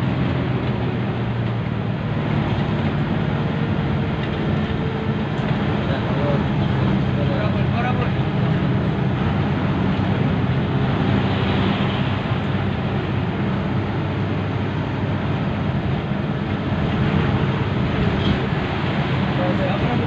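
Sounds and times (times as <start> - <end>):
bus engine running: 0.0 - 20.0
road and wind noise: 0.0 - 20.0.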